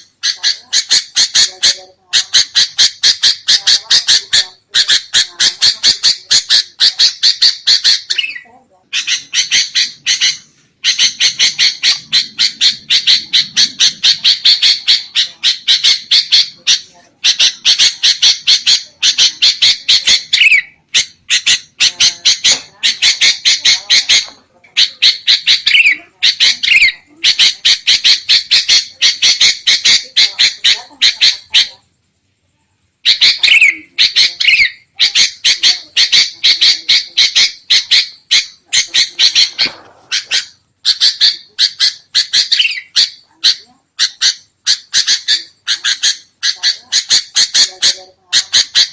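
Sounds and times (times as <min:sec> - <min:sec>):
bird scolding chatter: 0:00.0 - 0:32.0, 0:33.0 - 0:48.9.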